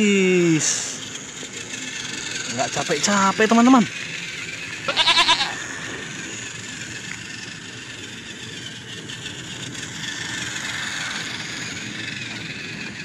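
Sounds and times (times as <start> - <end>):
toy train motor whir: 0.0 - 13.0
wheel rattle on track: 0.0 - 13.0.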